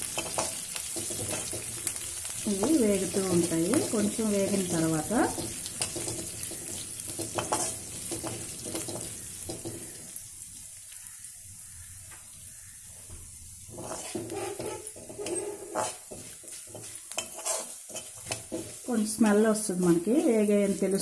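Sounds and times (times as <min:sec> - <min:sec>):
spatula scraping a pan: 0:00.0 - 0:10.2, 0:13.6 - 0:21.0
spices sizzling in hot oil: 0:00.0 - 0:21.0.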